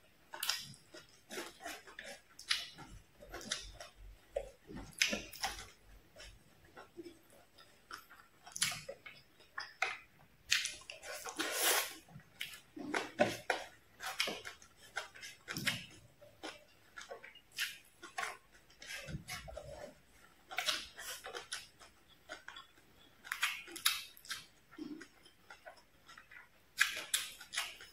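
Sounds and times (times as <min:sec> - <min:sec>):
chewing mouth noises: 0:00.3 - 0:27.9.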